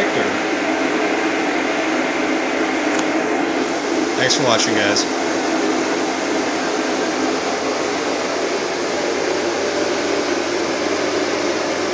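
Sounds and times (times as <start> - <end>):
cooling fan air rush: 0.0 - 11.9
low hum: 0.0 - 11.9.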